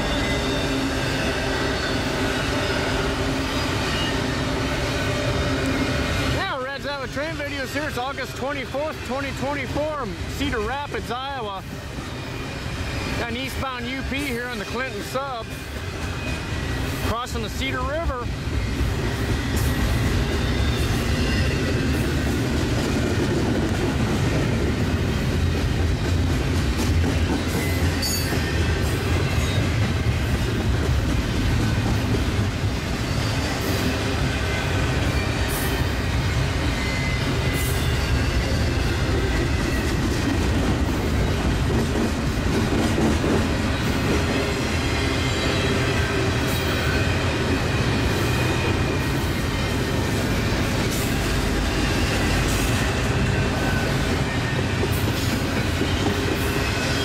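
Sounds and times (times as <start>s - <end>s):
freight train rumbling past: 0.0s - 57.0s
train clicks: 2.4s - 57.0s.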